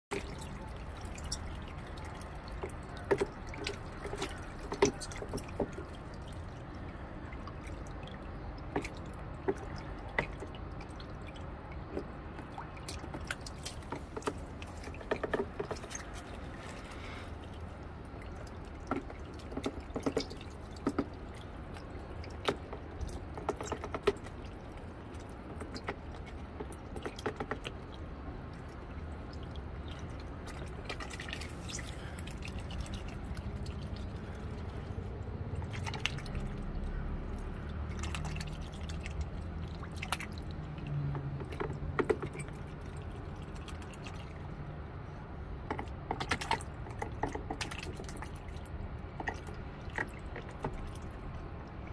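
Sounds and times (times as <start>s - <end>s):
duck dabbling in water: 0.1s - 51.9s
low background rumble: 0.1s - 51.9s.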